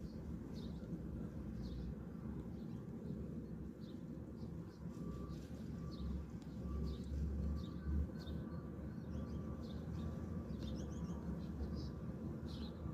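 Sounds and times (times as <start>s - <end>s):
sparrows chirping: 0.0s - 12.9s.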